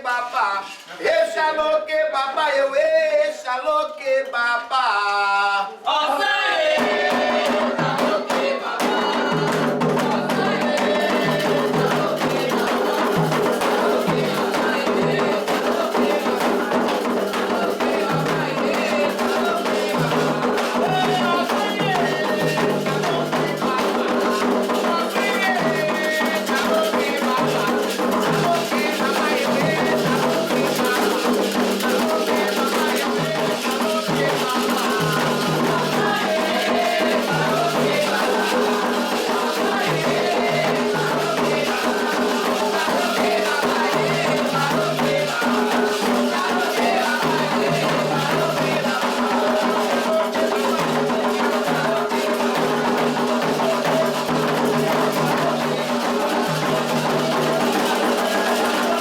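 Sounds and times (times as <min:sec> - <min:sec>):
lone voice singing: 0:00.0 - 0:59.0
voices singing a chant: 0:00.0 - 0:59.0
hand drums: 0:06.4 - 0:59.0
shaken rattle: 0:08.5 - 0:59.0.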